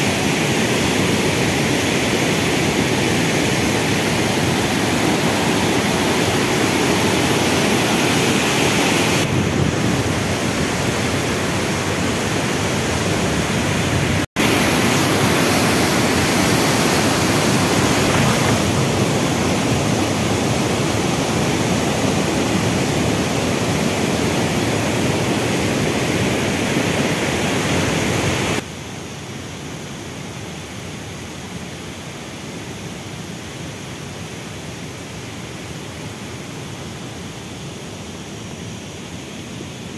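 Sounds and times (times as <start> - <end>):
river torrent rushing over boulders: 0.0 - 32.3.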